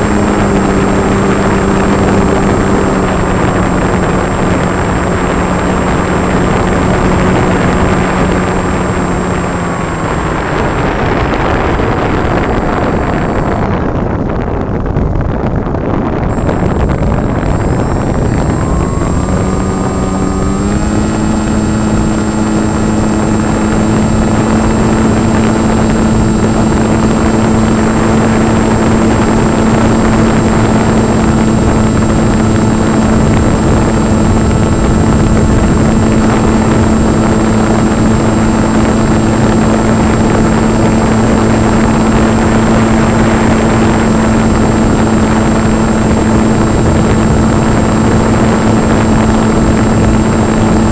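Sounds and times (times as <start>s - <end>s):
electric motor and propeller whine: 0.0s - 50.9s
wind rush: 0.0s - 50.9s.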